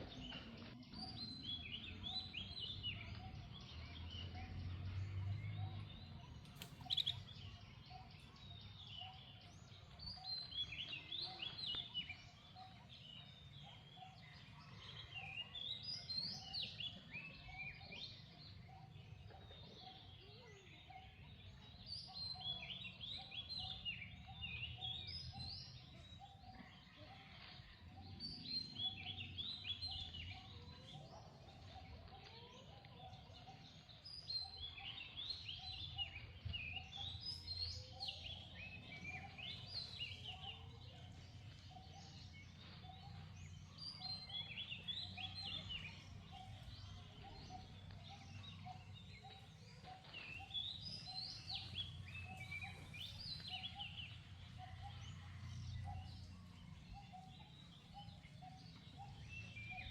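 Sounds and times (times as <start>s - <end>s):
birds chirping and chattering: 0.0s - 59.9s.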